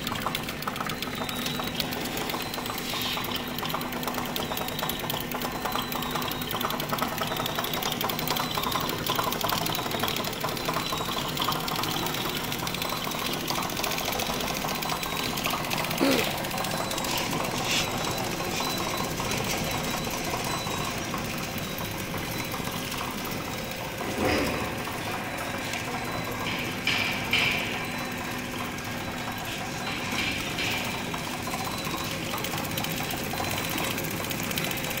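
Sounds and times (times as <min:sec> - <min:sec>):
loud machine clacks: 0:00.0 - 0:35.0
packaging machine clattering: 0:00.0 - 0:35.0.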